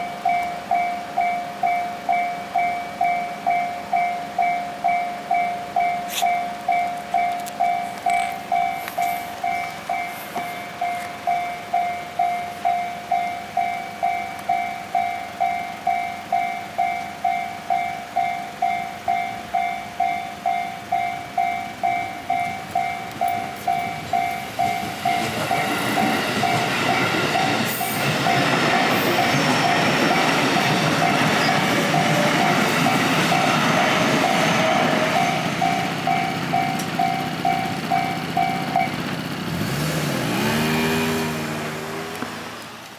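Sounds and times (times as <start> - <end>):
level-crossing warning bell clanging: 0.0 - 39.5
train wheels rolling: 4.3 - 42.9.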